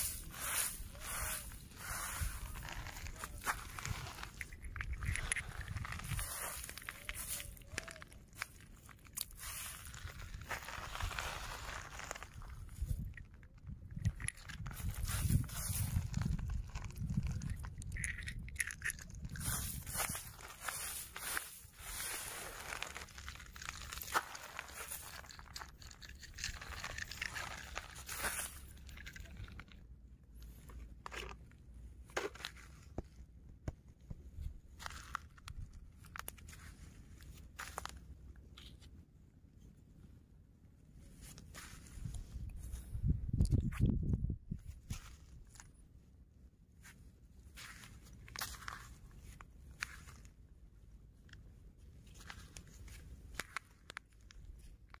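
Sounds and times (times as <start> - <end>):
footsteps crunching on shells: 0.0 - 33.4, 34.0 - 38.9, 41.2 - 44.0, 44.6 - 45.8, 46.8 - 50.5, 51.2 - 55.0.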